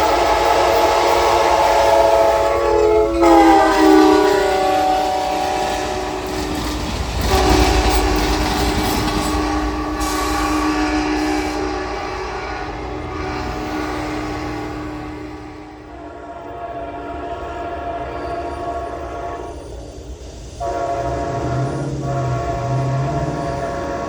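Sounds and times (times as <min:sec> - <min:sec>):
locomotive horn: 0:00.0 - 0:19.8, 0:20.6 - 0:24.0
passing train rumble: 0:00.0 - 0:24.0.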